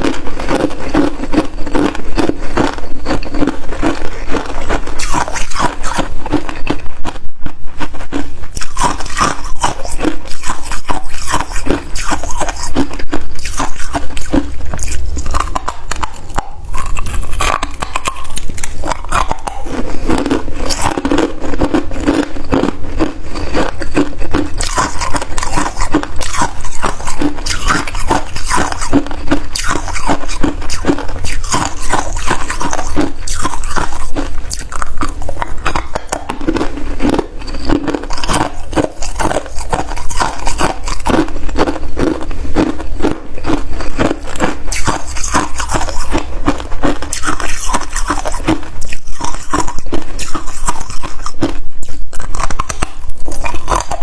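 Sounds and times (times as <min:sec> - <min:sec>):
person chewing frost: 0:00.0 - 0:54.0.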